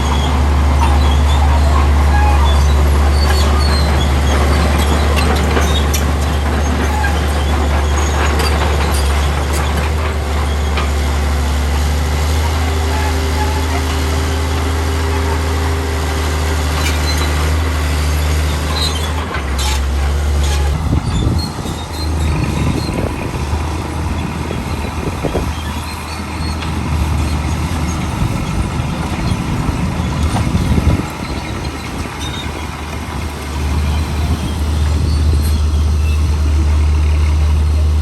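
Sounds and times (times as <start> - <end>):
diesel machinery engine running: 0.0 - 38.0.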